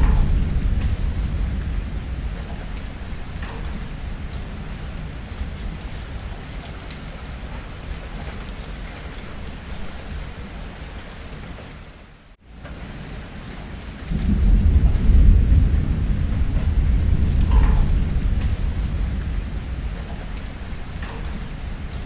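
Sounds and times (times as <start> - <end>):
thunder rumbling: 0.0 - 11.4, 12.6 - 22.0
steady rain: 0.0 - 22.0.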